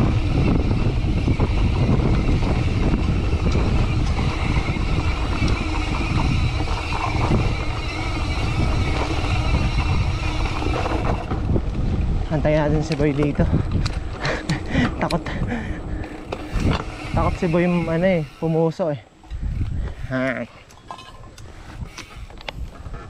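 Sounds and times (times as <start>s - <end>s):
wind buffeting microphone: 0.0s - 20.2s, 20.9s - 23.0s
bike rattling over stones: 0.0s - 23.0s
bike tyre noise on dirt: 0.0s - 23.0s.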